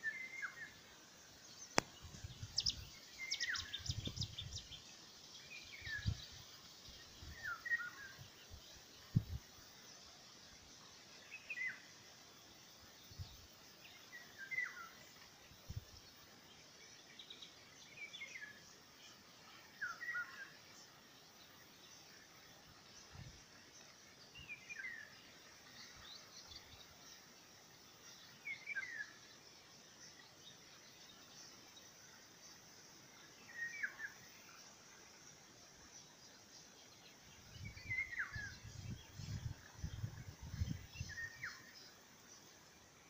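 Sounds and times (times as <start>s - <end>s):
faint outdoor hiss: 0.0s - 43.0s.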